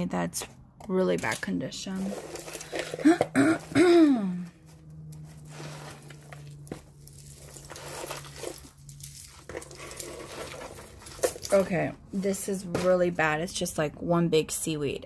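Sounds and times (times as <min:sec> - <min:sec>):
jewelry and cardboard clicking and rustling: 0:00.0 - 0:03.8, 0:04.4 - 0:13.8.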